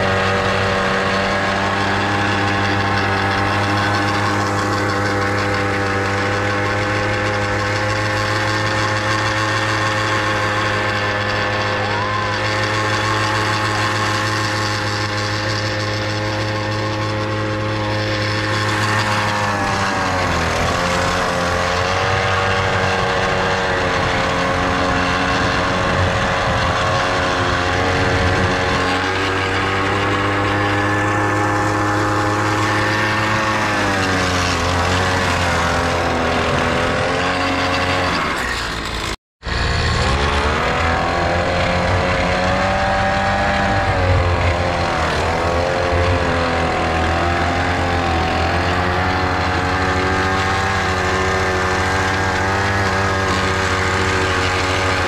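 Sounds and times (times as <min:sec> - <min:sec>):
small petrol engine running: 0:00.0 - 0:55.0.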